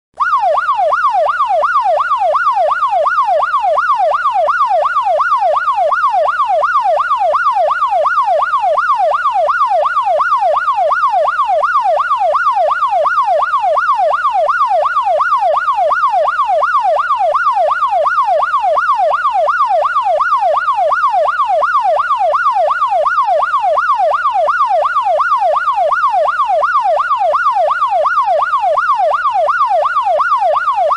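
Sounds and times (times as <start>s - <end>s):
police siren yelping: 0.2s - 30.9s.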